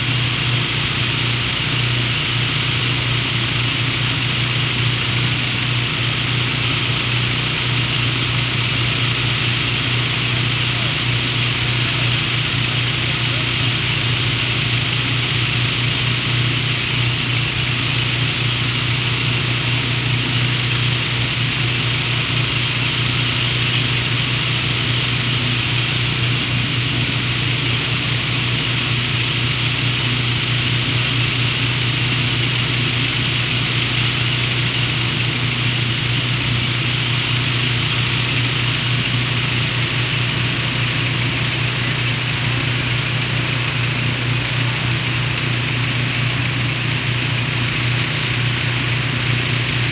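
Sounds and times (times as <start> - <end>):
sprayer hiss: 0.0 - 49.9
tractor engine humming: 0.0 - 49.9.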